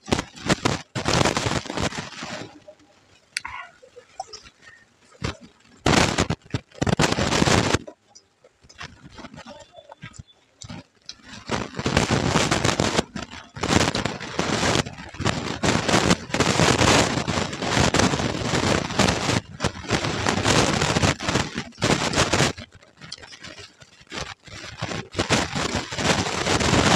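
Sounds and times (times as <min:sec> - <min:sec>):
crackly crunching chewing: 0:00.1 - 0:26.9.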